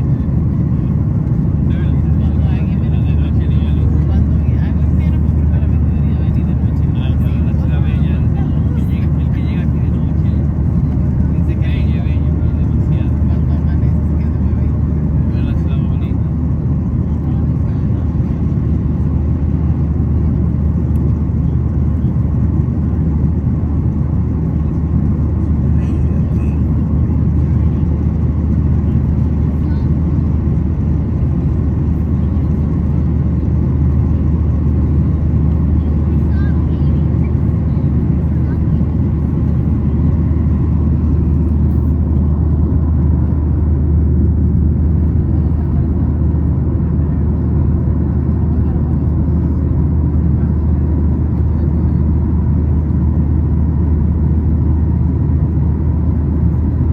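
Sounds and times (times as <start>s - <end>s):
airplane cabin engine rumble: 0.0s - 56.9s.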